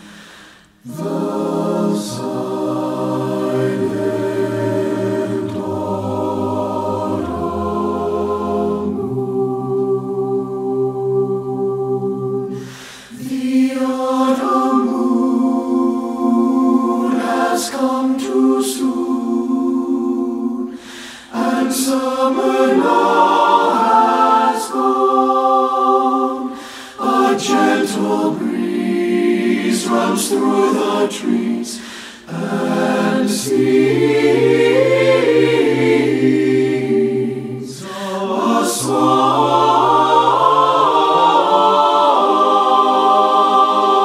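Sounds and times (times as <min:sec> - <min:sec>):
mixed choir singing a cappella: 0:00.0 - 0:44.0.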